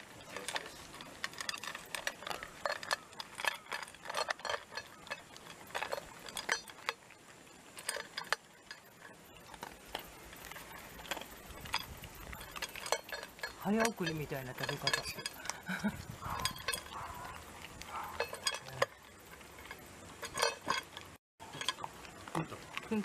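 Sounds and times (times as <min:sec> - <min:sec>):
dog crunching dry kibble: 0:00.2 - 0:23.0
kibble clinking in metal bowl: 0:00.3 - 0:07.1, 0:07.7 - 0:22.9.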